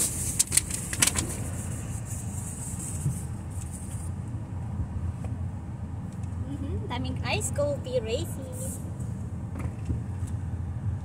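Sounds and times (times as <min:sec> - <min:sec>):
car rumble: 0:00.0 - 0:11.0.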